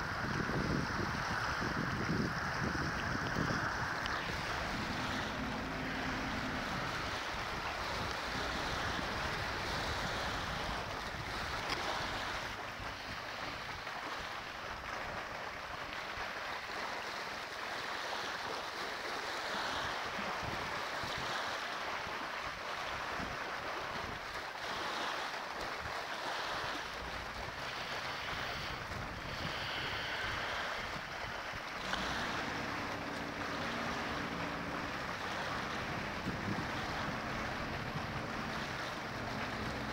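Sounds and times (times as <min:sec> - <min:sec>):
wind on microphone: 0:00.0 - 0:16.0, 0:19.4 - 0:22.2, 0:25.8 - 0:39.9
boat engine drone: 0:00.0 - 0:21.9, 0:26.2 - 0:39.9
water washing over rocky shore: 0:00.0 - 0:39.9.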